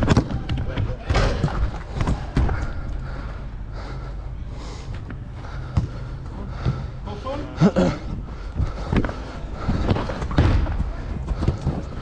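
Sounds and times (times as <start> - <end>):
person breathing hard: 1.8 - 12.0.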